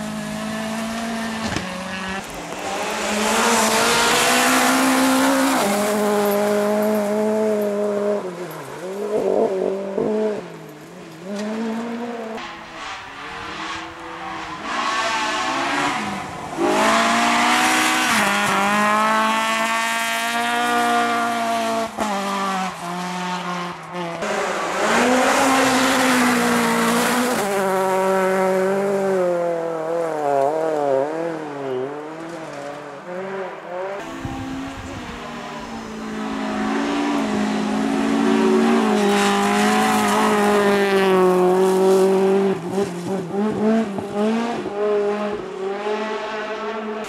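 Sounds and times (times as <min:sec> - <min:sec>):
gravel noise from tyres: 0:00.0 - 0:45.8
rally car engines revving: 0:00.0 - 0:47.0.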